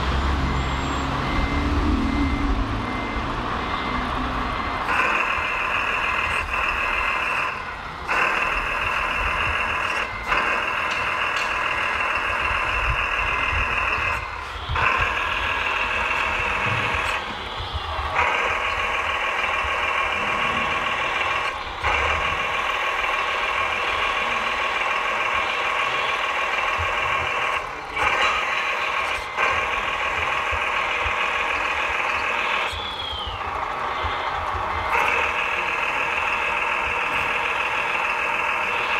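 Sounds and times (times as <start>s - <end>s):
hydraulic pump whining: 0.0s - 38.9s.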